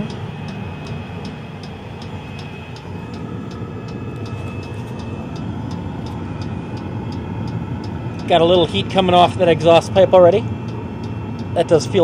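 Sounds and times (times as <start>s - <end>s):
heater combustion blower turbine: 0.0s - 12.0s.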